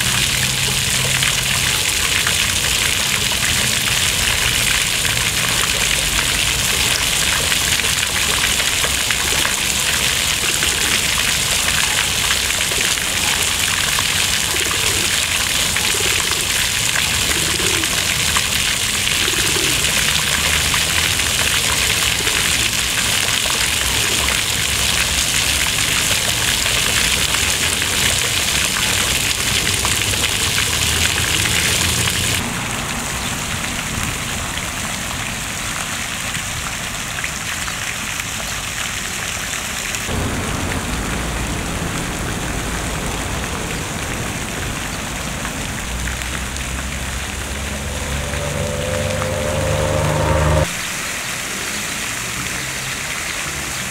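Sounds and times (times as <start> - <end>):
fountain water splashing: 0.0 - 53.9.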